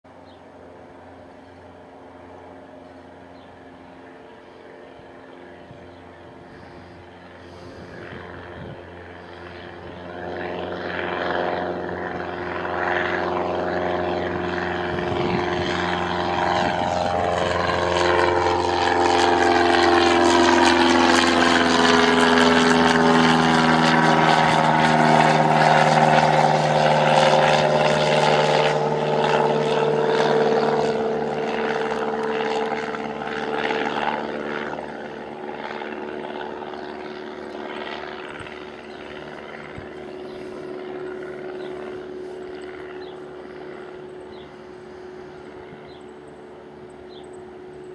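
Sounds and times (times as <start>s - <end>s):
propeller plane passing by: 0.0s - 47.9s.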